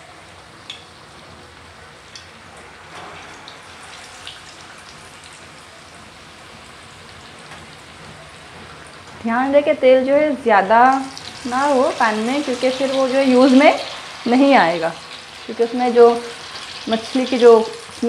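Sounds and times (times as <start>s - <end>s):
fish deep-frying in hot oil: 0.0s - 18.0s.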